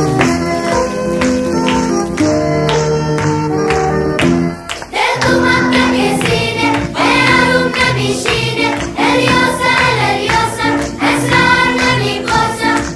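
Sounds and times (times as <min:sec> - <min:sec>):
music with singing: 0:00.0 - 0:12.9.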